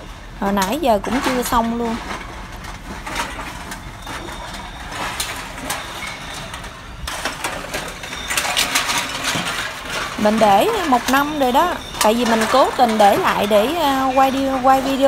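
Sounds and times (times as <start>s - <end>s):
cans and bottles clinking: 0.0s - 15.0s.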